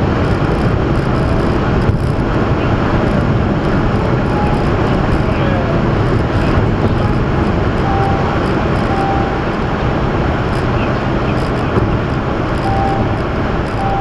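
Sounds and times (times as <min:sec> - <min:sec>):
wind and tyre noise in car: 0:00.0 - 0:14.0.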